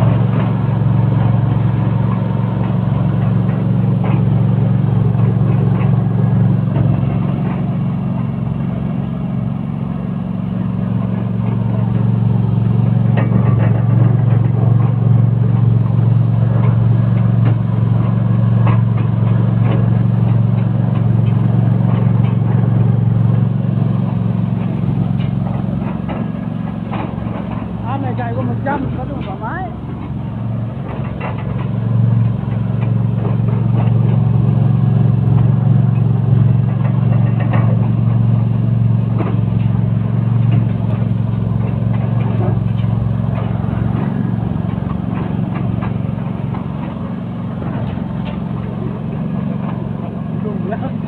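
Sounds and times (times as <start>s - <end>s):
machine humming: 0.0s - 51.0s.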